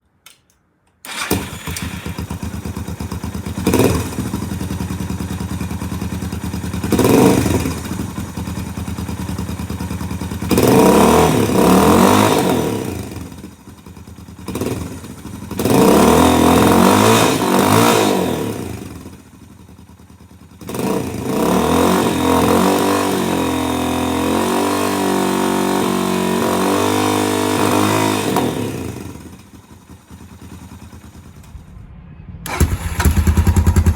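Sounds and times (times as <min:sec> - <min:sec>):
motorcycle engine revving and idling: 0:01.1 - 0:31.8, 0:32.4 - 0:33.9.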